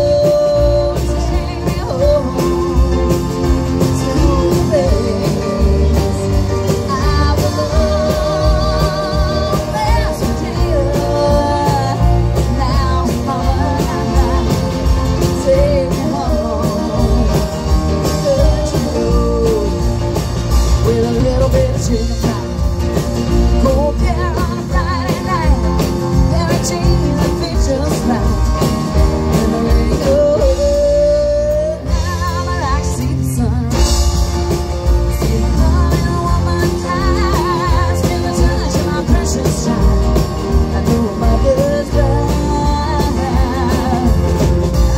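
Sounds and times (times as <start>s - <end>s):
country-rock band playing: 0.0s - 44.9s
woman singing lead: 0.0s - 44.9s.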